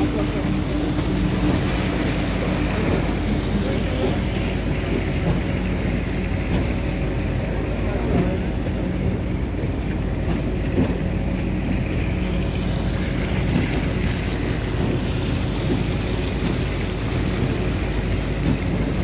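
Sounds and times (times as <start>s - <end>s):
boat engine humming: 0.0s - 19.0s
water rushing past hull: 0.0s - 19.0s.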